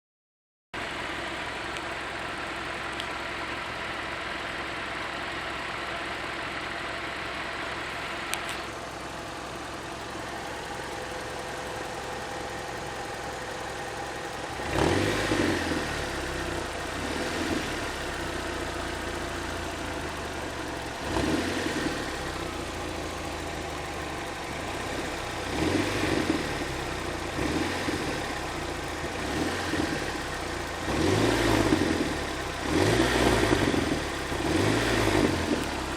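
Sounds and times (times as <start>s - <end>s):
car engine idling and revving: 0.8s - 35.9s.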